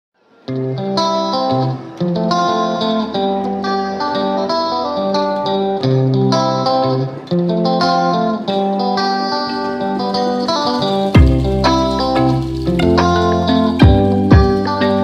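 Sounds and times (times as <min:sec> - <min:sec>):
guitar playing plucked melody: 0:00.2 - 0:15.0.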